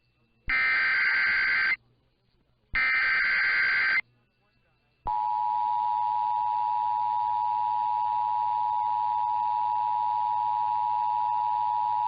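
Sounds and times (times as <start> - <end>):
steady two-tone alarm: 0.4 - 1.8, 2.8 - 12.0.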